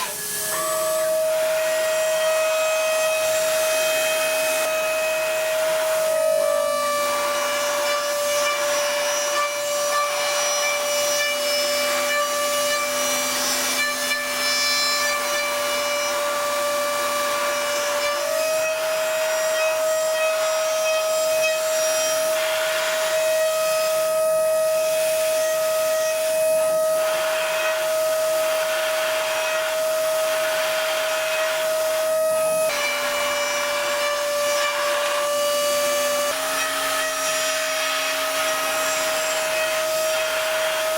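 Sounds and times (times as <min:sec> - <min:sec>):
milling machine cutting: 0:00.0 - 0:40.9.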